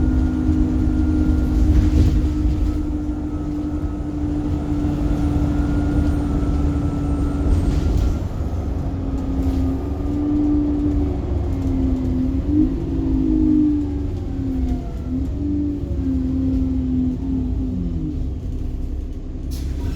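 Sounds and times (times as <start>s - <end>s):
bus engine rumble: 0.0s - 19.9s.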